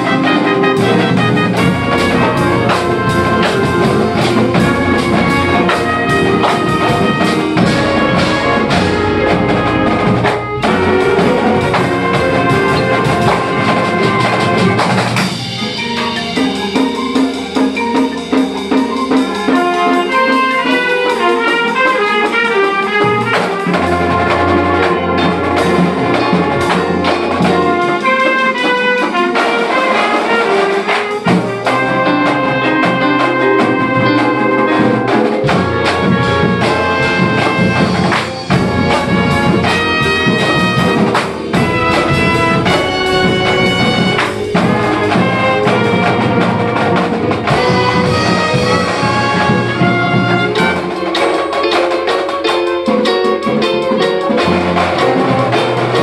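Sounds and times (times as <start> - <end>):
student band playing brassy piece: 0.0 - 56.0
trumpets and sousaphones: 0.0 - 56.0.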